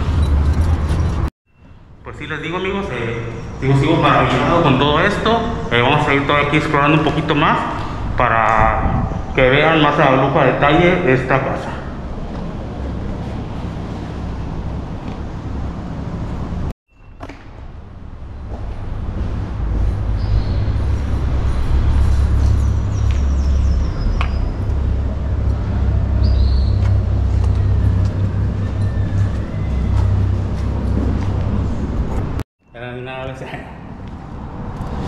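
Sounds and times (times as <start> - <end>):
steady low rumble: 2.1 - 16.7, 17.5 - 32.4.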